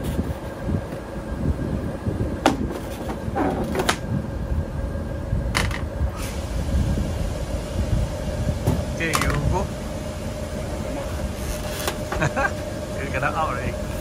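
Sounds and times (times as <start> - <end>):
air conditioner units humming: 0.0 - 14.0.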